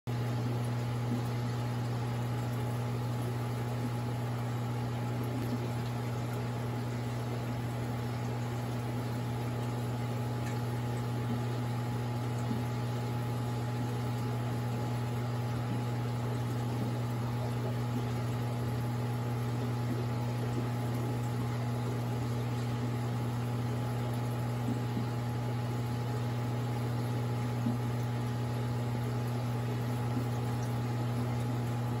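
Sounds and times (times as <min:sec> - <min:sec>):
aquarium pump hum: 0:00.1 - 0:32.0
water bubbling: 0:00.2 - 0:32.0.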